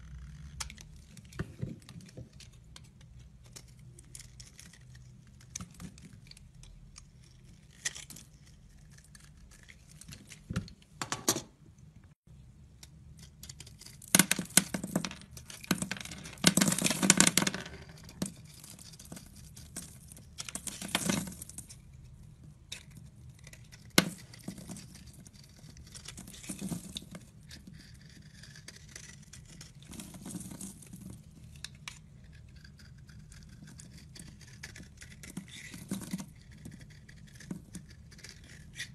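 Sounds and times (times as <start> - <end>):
knife shaving soap: 0.1 - 10.5, 12.8 - 17.0, 17.9 - 38.9.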